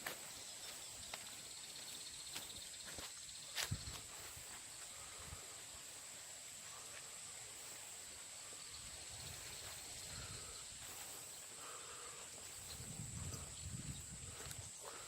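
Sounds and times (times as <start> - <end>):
footsteps on a path: 0.0 - 15.0.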